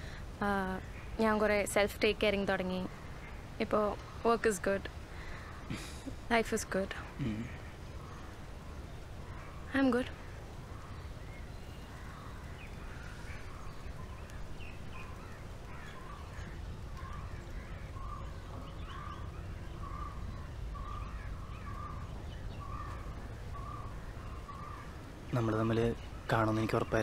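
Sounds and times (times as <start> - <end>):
outdoor background noise: 0.0 - 27.0
crows cawing: 2.6 - 6.1, 6.8 - 26.7.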